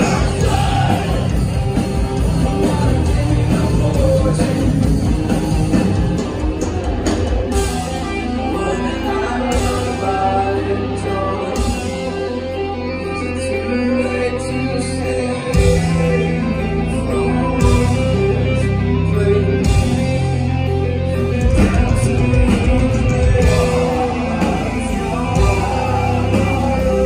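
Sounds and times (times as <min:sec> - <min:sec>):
electric guitars and bass: 0:00.0 - 0:27.0.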